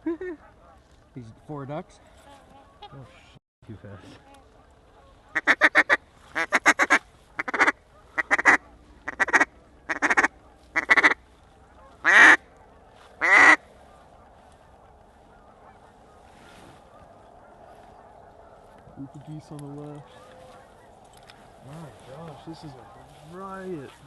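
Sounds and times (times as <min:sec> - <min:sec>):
goose call clucking: 0:02.1 - 0:24.0.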